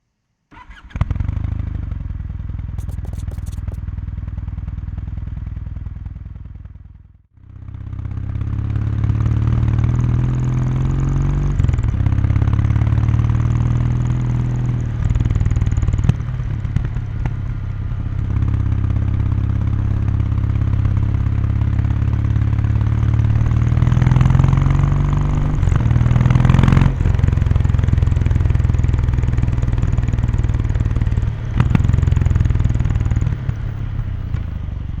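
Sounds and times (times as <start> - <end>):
motorcycle engine accelerating: 0.6 - 35.0.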